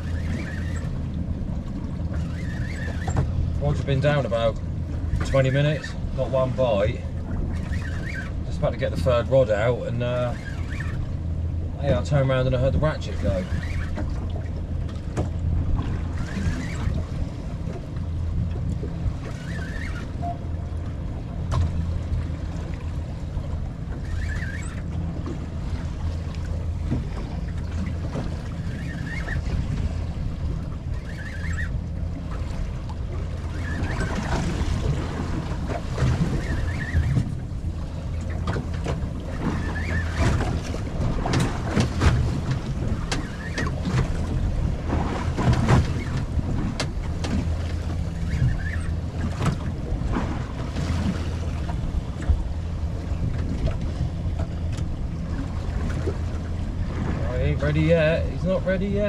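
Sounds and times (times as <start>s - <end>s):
water slapping against boat hull: 0.0s - 59.0s
wind buffeting microphone: 0.0s - 59.0s.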